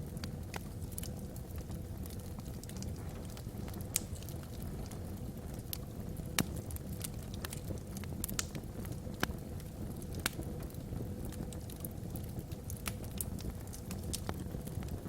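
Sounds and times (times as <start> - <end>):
burning logs crackling and popping: 0.0 - 15.0
low rumble of fire: 0.0 - 15.0.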